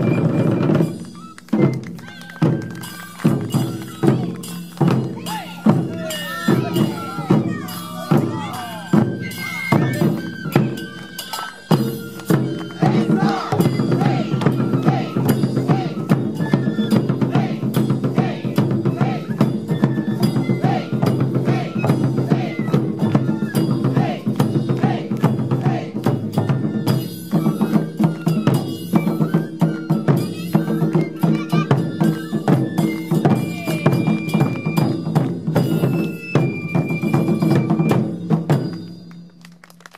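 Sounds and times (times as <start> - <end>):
drum ensemble playing: 0.0 - 39.0.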